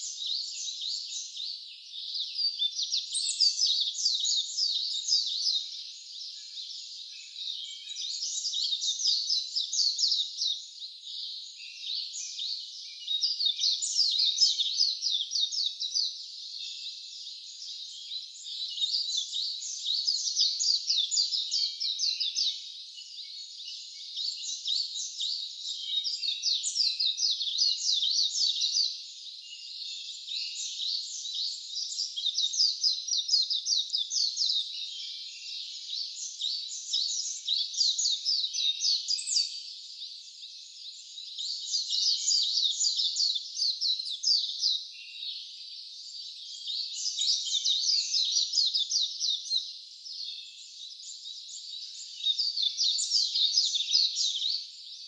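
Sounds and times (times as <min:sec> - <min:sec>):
chorus of high chirping calls: 0:00.0 - 0:55.0.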